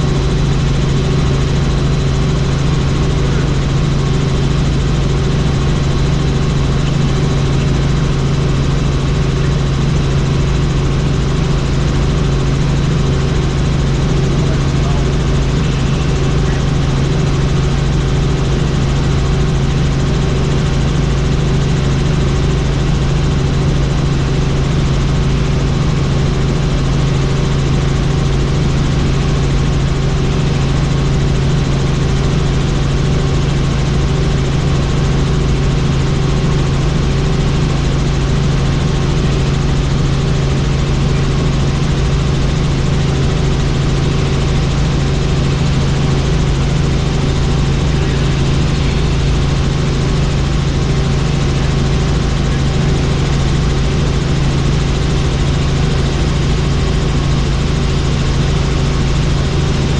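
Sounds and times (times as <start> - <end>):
helicopter in flight: 0.0 - 59.9.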